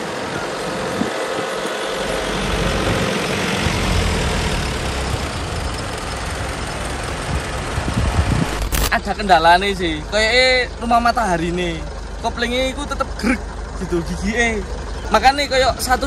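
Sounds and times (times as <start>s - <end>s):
diesel truck engine driving slowly: 0.0s - 16.0s.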